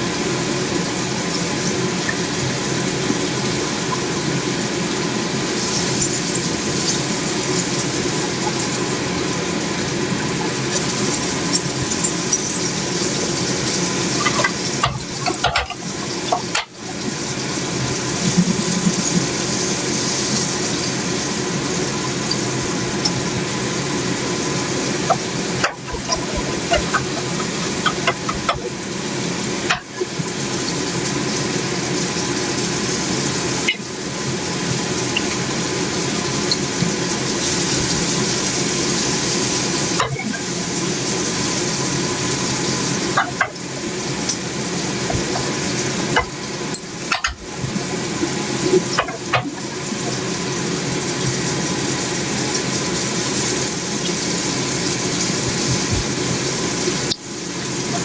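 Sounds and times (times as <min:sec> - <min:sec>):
food sizzling in a pan: 0:00.0 - 0:58.0.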